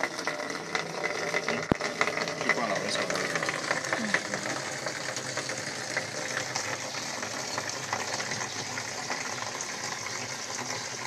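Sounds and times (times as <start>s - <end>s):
water pouring into plastic container: 0.0s - 11.0s
water splashing: 0.0s - 11.0s.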